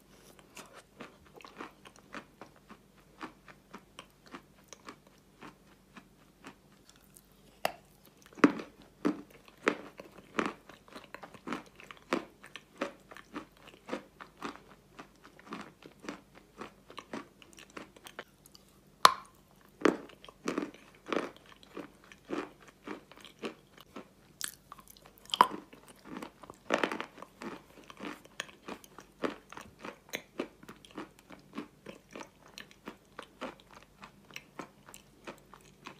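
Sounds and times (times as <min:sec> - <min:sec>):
chewing and crunching clay: 0:00.0 - 0:35.9.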